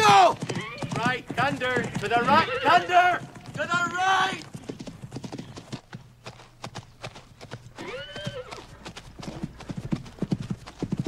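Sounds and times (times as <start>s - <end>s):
hoofbeats on grass: 0.0s - 11.0s.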